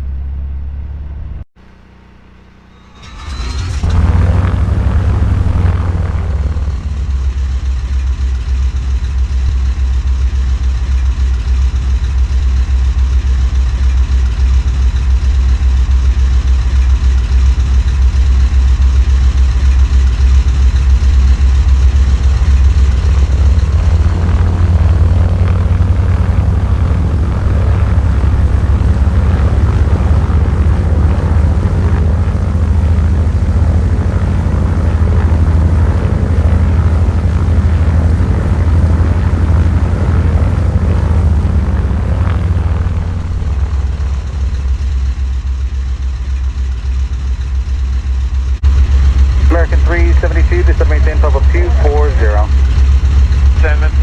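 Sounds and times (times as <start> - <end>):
propeller noise: 0.0 - 54.0
radial piston engines droning: 2.0 - 54.0.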